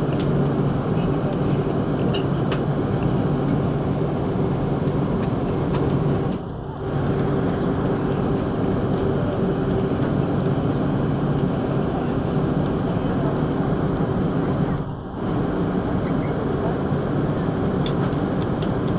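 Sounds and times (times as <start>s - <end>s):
deep airframe and wheel rumble: 0.0s - 18.9s
jet engines humming: 0.0s - 18.9s.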